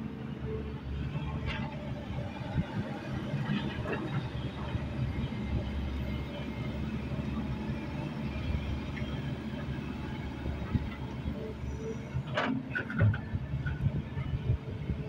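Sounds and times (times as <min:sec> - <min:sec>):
diesel machinery engine rumble: 0:00.0 - 0:15.0.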